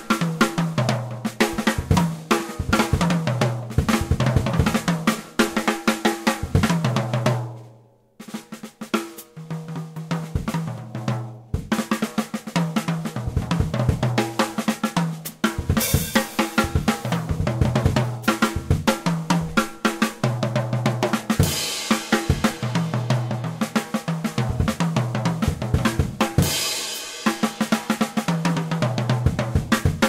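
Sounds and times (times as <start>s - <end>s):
drum kit: 0.0s - 30.0s.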